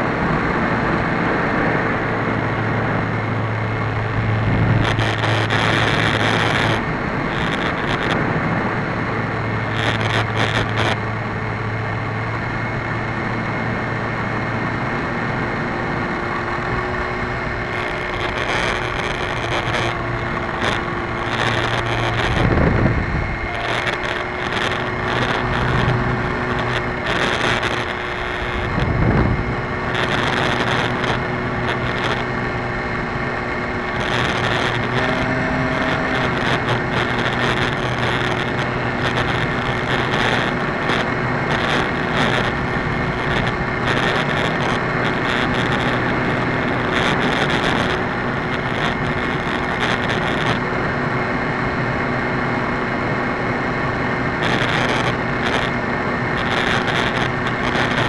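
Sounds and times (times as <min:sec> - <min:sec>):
wind rushing across microphone: 0:00.0 - 0:11.0, 0:16.0 - 0:58.0
model airplane motor and propeller: 0:00.0 - 0:58.0.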